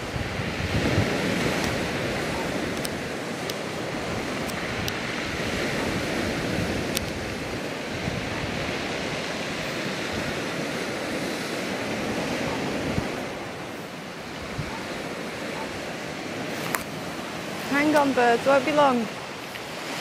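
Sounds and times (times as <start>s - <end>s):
surf breaking on beach: 0.0s - 20.0s
wind on microphone: 0.0s - 20.0s.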